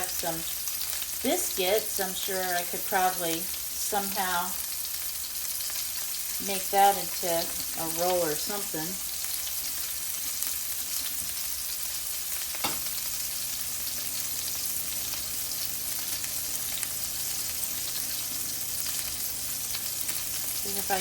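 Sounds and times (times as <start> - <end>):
meatballs sizzling in a pan: 0.0 - 21.0.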